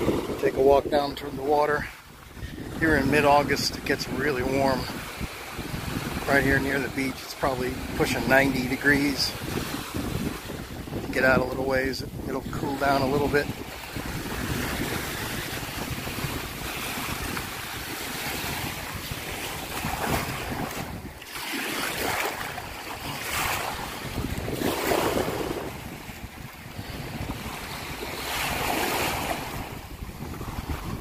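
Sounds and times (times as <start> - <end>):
small waves breaking on sand: 0.0 - 31.0
wind rumble on microphone: 0.0 - 31.0.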